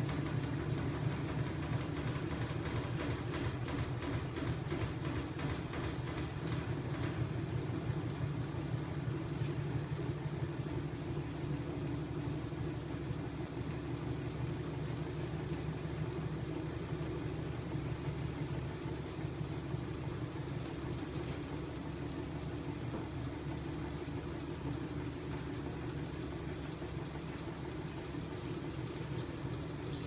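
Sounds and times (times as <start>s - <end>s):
electric motor mechanical hum: 0.0s - 30.0s.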